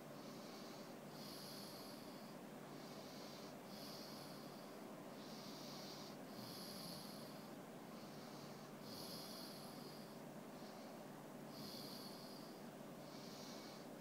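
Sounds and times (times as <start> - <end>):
dog snoring: 0.2 - 13.9.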